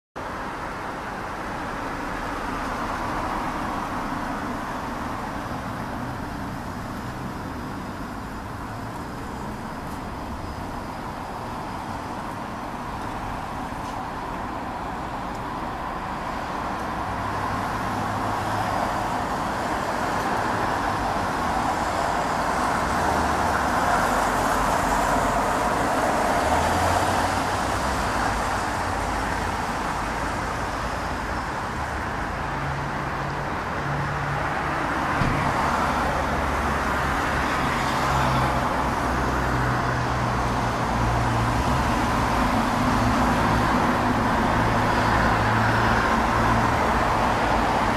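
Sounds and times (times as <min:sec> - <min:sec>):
passing road traffic: 0:00.2 - 0:47.9.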